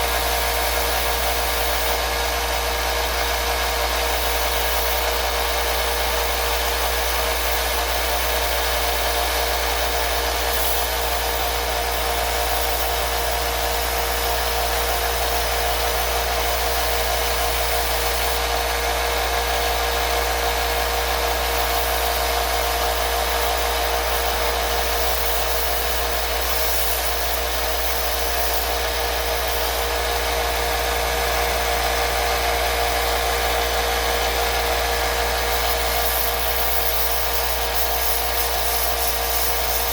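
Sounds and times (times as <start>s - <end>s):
electric motor whirring: 0.0s - 39.9s.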